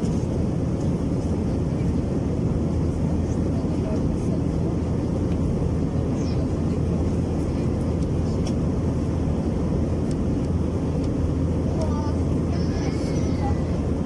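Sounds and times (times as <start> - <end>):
jet engine cabin rumble: 0.0 - 14.0.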